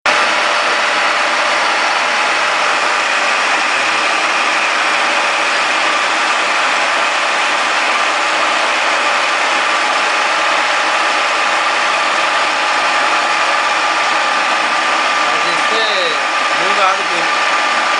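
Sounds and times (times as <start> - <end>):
milling machine whirring: 0.1 - 17.9.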